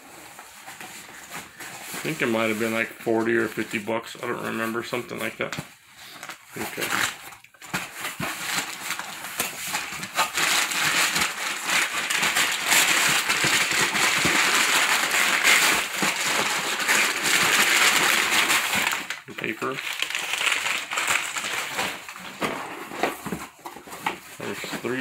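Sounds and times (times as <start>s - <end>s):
packing paper crinkling: 0.0s - 25.0s.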